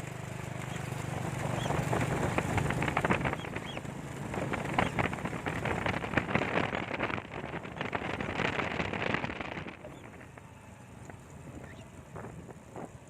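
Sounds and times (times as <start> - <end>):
vehicle engine humming: 0.0 - 13.0
wind buffeting microphone: 1.3 - 13.0.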